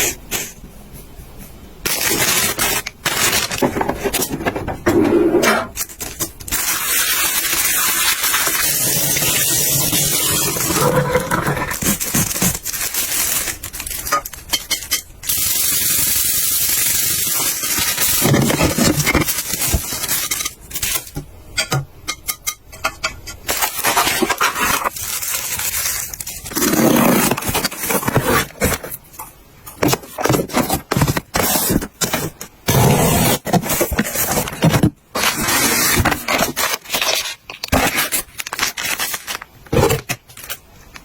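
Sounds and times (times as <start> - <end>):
rustling: 0.8 - 21.2, 23.4 - 39.6.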